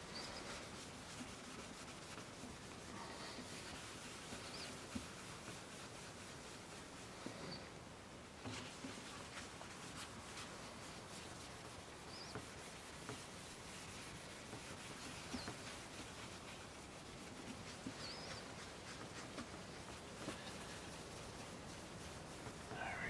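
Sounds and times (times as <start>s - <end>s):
paper towel rubbing plastic lens: 0.0s - 7.7s, 8.4s - 23.0s
scratchy ticks of towel: 0.0s - 23.0s.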